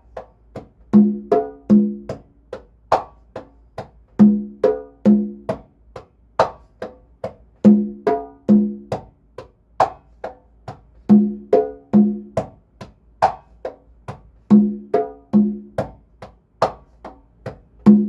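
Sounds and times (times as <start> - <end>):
congas played by hand: 0.0 - 18.0.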